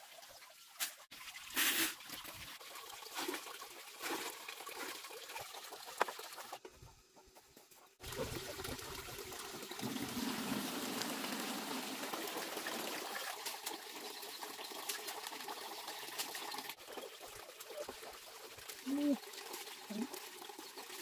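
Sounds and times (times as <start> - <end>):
water pouring into basin: 0.0 - 6.6, 8.0 - 21.0.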